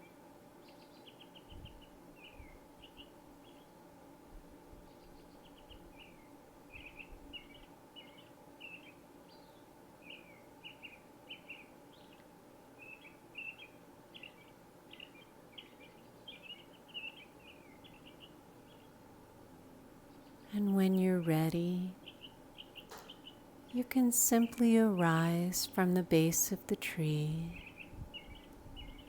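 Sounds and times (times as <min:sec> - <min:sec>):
faint birdsong chirps: 0:00.0 - 0:29.0
low steady hum: 0:00.0 - 0:29.0.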